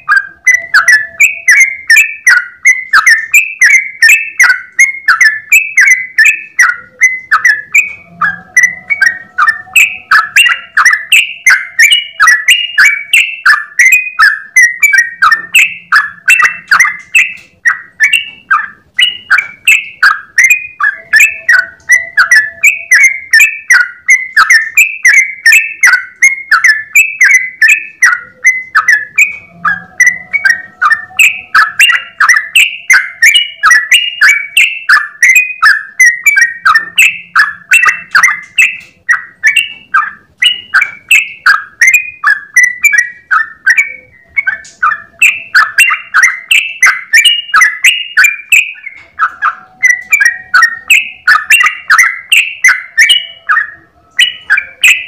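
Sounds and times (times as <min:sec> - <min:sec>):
bulbul chirping song: 0:00.0 - 0:55.0.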